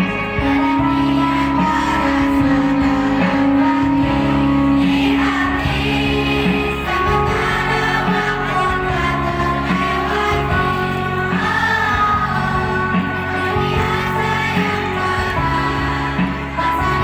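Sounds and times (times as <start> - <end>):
amplified backing music: 0.0 - 17.0
children singing together: 0.1 - 17.0.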